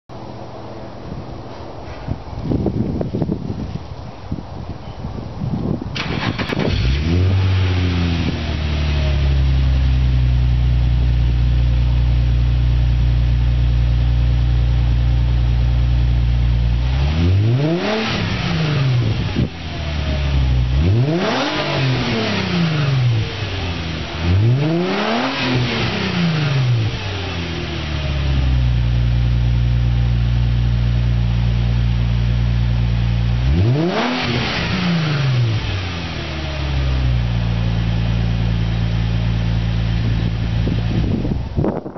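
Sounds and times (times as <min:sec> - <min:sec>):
car engine idling and revving: 0:00.1 - 0:41.9.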